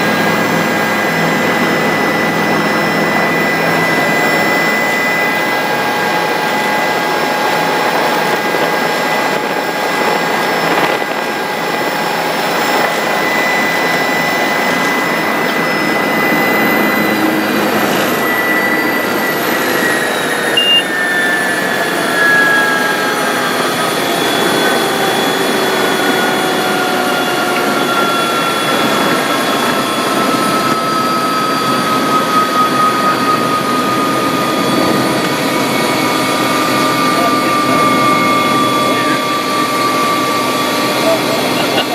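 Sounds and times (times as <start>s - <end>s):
helicopter turbine and rotors: 0.0s - 41.9s.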